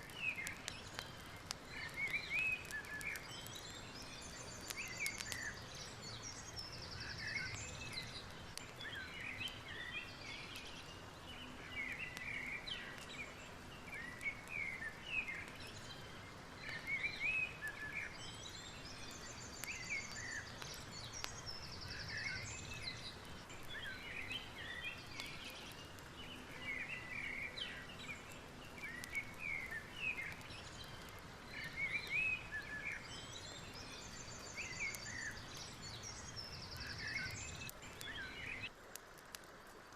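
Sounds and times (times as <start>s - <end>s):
low background noise: 0.0s - 39.9s
birds chirping and whistling: 0.1s - 16.1s, 16.7s - 38.7s.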